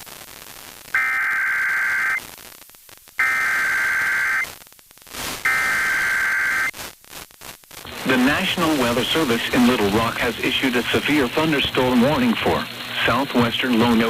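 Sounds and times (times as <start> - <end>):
radio hiss: 0.0 - 14.0
buzzy digital data tones: 0.8 - 13.2.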